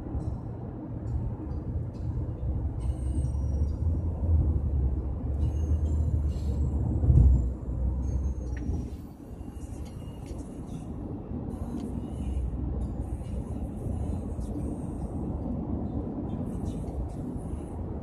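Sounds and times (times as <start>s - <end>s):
road and engine rumble in car: 0.0s - 18.0s.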